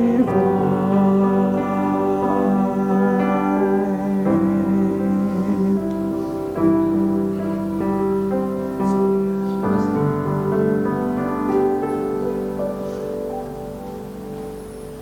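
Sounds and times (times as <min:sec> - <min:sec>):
keyboard playing slow chords: 0:00.0 - 0:15.0.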